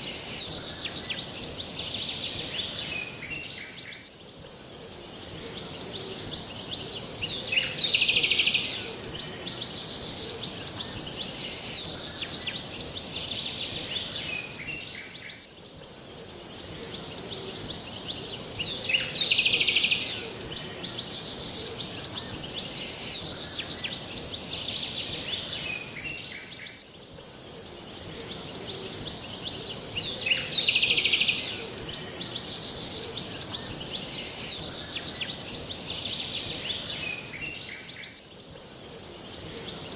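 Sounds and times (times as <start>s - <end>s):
insects: 0.0s - 39.9s
steady hiss: 0.0s - 39.9s.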